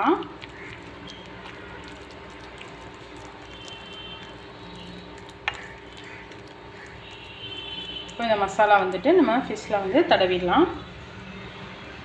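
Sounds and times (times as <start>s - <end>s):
fingers squishing wet paste: 0.0s - 9.6s.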